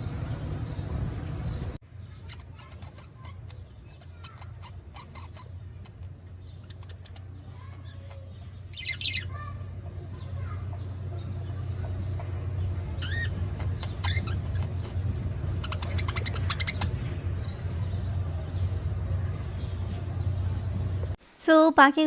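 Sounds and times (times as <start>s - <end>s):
birds chirping and squawking: 0.0s - 21.1s.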